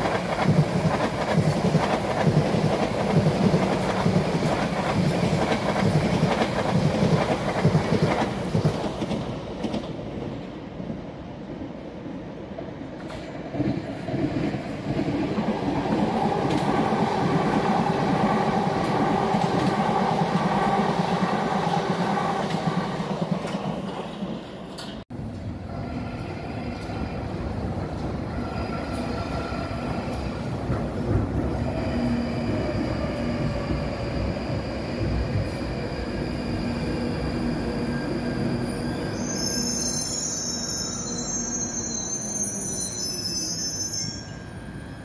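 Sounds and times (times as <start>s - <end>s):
train rumbling: 0.0s - 42.9s
underground train whining: 0.0s - 45.0s.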